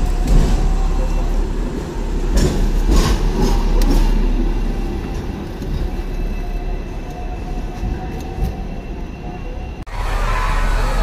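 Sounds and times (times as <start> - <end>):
tram rumble on rails: 0.0 - 11.0.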